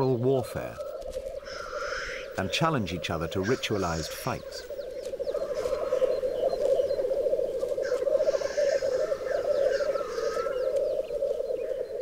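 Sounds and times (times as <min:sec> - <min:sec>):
grouse bubbling and cooing: 0:00.0 - 0:12.0.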